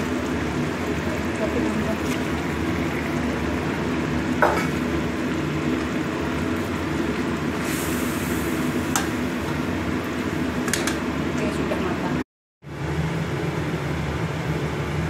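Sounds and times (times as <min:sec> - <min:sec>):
steady sizzle: 0:00.0 - 0:12.1.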